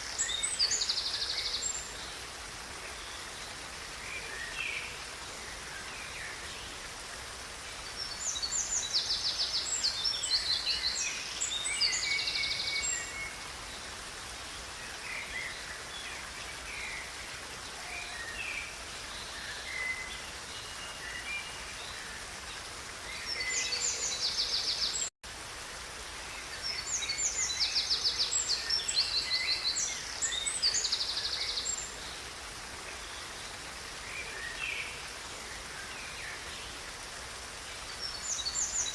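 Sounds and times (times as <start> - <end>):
songbirds trilling and chirping: 0.0 - 25.1, 26.3 - 38.9.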